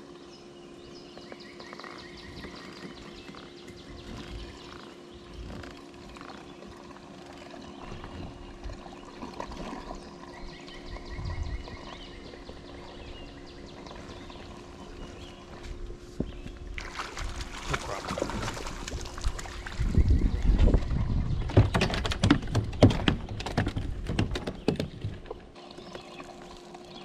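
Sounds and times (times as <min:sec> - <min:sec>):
birds calling: 0:00.0 - 0:16.7, 0:17.4 - 0:27.0
steady low hum: 0:00.0 - 0:27.0
water sounds: 0:01.7 - 0:27.0.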